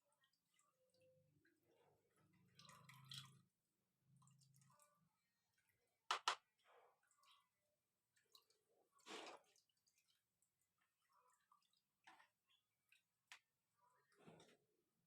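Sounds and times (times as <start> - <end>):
faint dripping of juice: 0.1 - 5.9, 6.5 - 14.6.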